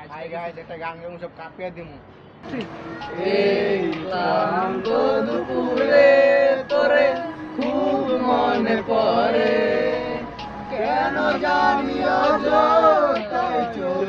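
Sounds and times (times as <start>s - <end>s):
young men singing together: 2.6s - 14.0s.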